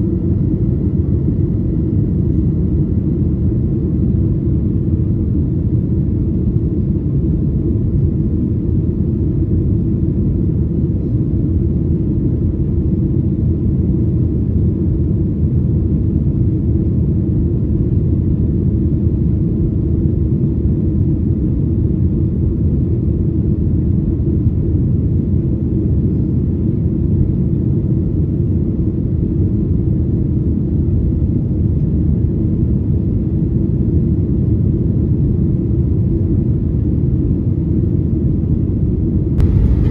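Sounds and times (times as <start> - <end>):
airliner cabin engine rumble: 0.0 - 19.8, 20.4 - 39.9.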